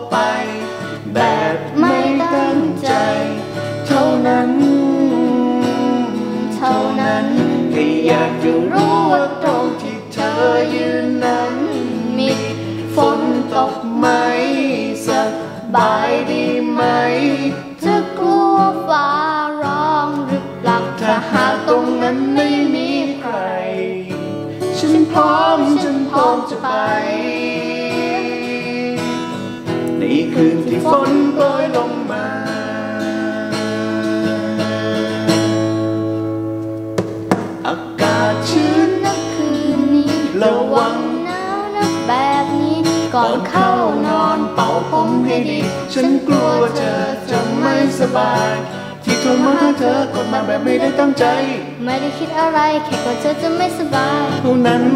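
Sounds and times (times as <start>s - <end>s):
girl and man singing: 0.0s - 35.6s, 37.6s - 54.9s
acoustic guitar: 0.0s - 54.9s.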